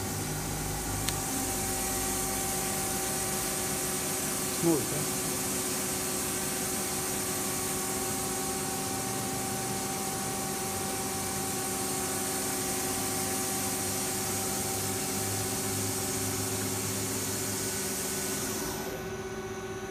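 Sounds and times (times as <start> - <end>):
machine hum with whining tones: 0.0 - 19.9
hiss: 1.2 - 18.8.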